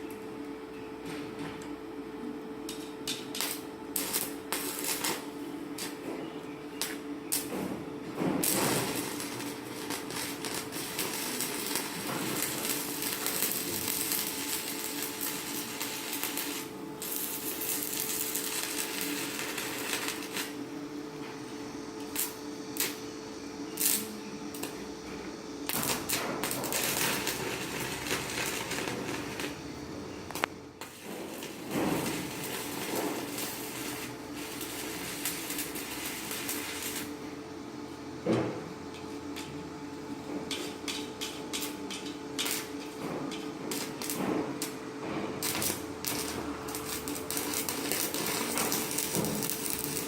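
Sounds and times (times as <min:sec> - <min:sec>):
welding arc crackling: 0:02.7 - 0:06.0, 0:06.8 - 0:07.6, 0:08.2 - 0:20.8, 0:21.9 - 0:37.4, 0:40.5 - 0:50.0.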